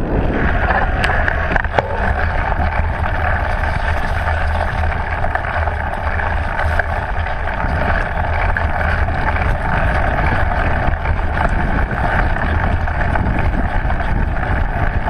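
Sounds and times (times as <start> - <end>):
bike clicks and rattles: 0.0 - 15.0
knobby tyres rolling over dirt: 0.0 - 15.0
wind rushing over microphone: 0.0 - 15.0.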